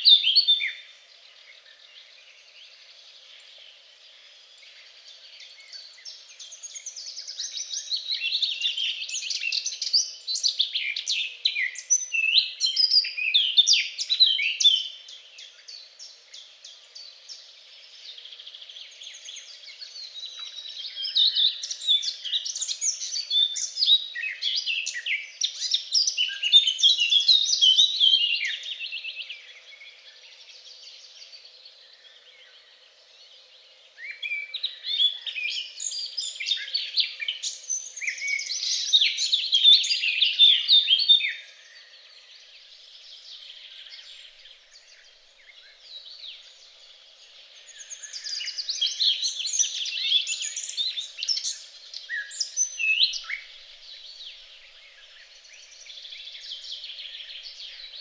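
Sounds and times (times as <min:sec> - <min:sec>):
soft bird chirping: 0:00.0 - 0:58.0
songbirds twittering: 0:00.0 - 0:58.0.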